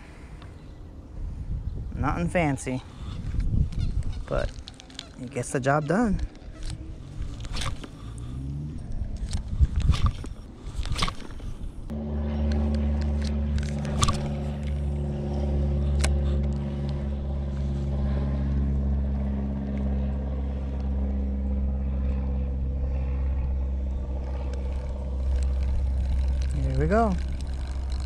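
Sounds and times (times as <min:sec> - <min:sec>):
motor running steadily: 0:02.1 - 0:28.0.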